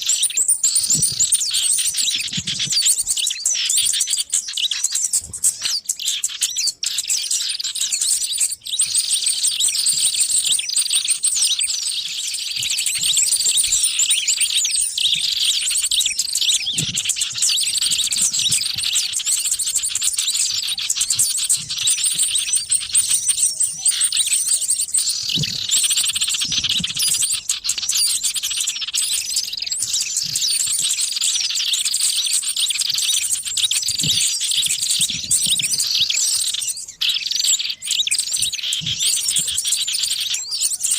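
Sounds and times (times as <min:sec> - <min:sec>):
many small birds chirping: 0:00.0 - 0:40.9.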